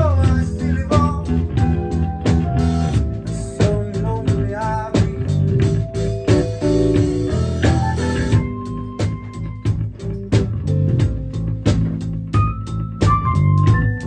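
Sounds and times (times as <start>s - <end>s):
drum kit beat: 0.0s - 14.0s
electric bass: 0.0s - 14.0s
electric guitar: 0.0s - 14.0s.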